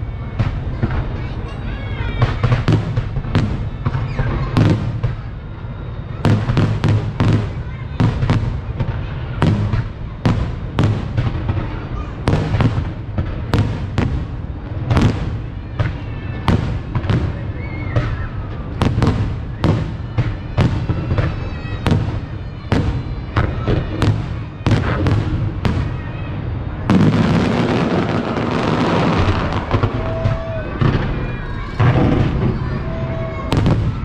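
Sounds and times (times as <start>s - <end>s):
continuous low rumble: 0.0s - 34.0s
fireworks bursting: 0.0s - 34.0s.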